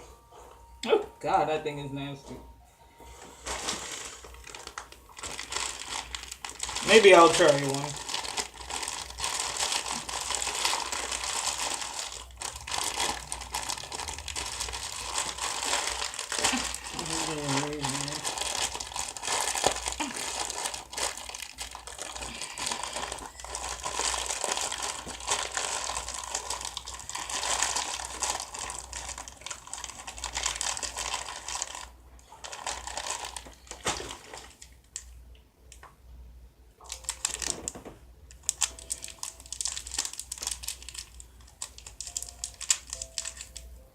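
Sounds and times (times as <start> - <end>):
candy wrappers crinkling: 3.2 - 35.8, 36.8 - 43.9.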